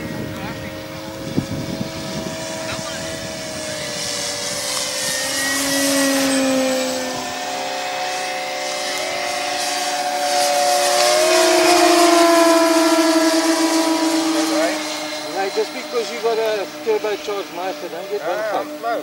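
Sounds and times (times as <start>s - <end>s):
model plane motors whining: 0.0s - 19.0s.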